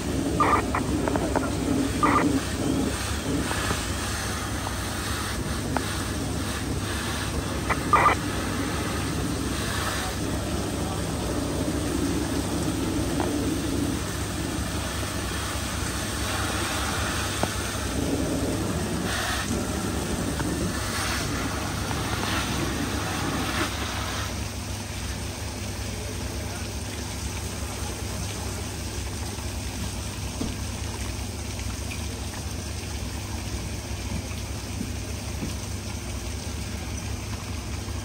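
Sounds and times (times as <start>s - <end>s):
fire engines droning: 0.0s - 38.0s.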